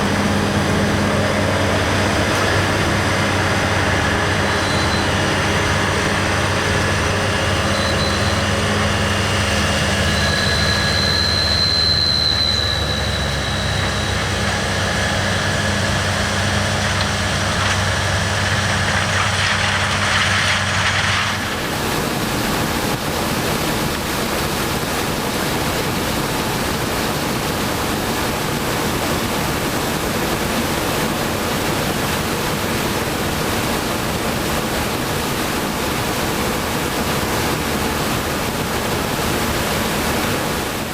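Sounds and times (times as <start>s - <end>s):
harvesting machinery engine drone: 0.0s - 40.9s.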